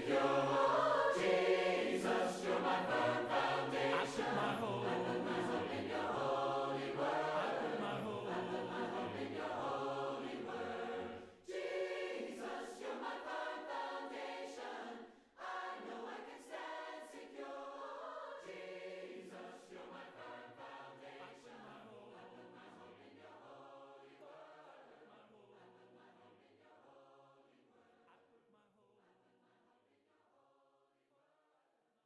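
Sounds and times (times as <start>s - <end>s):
choir singing: 0.0s - 30.2s.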